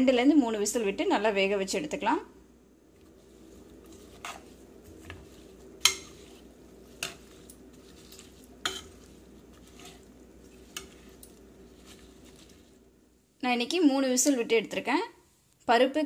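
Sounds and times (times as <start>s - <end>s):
steady low hum: 0.8s - 15.6s.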